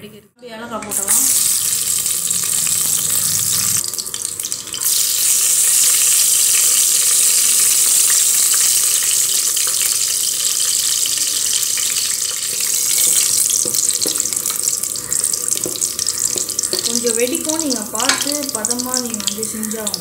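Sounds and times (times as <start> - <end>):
spices sizzling in hot oil: 0.8 - 20.0.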